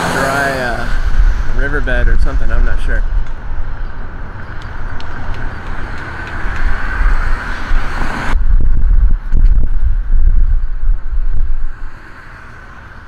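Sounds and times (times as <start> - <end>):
car and tyre noise: 0.0 - 13.0.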